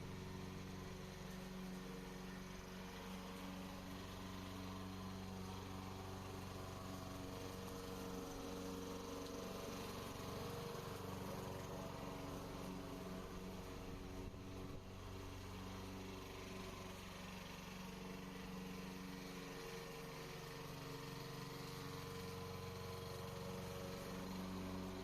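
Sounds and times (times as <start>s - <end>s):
lawn mower engine humming: 0.0s - 25.0s.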